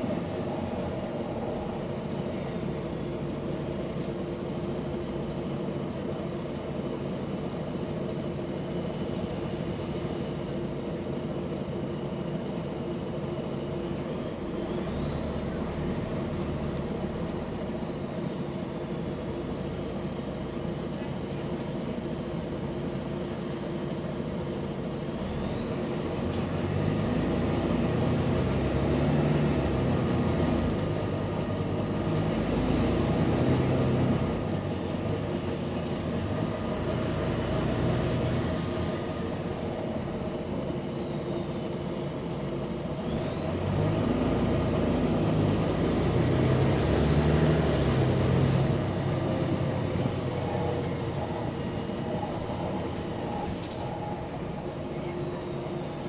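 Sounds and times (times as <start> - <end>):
bus diesel engine pulling away: 0.0 - 56.0.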